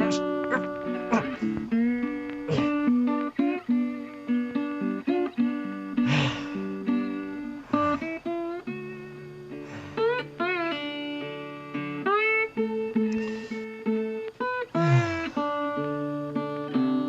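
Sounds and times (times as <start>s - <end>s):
plucked acoustic guitar music: 0.0s - 17.0s.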